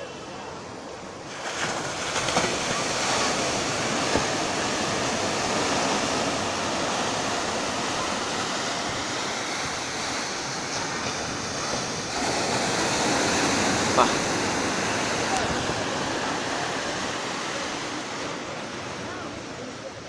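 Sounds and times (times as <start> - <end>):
waves breaking over rocks: 0.2 - 20.0.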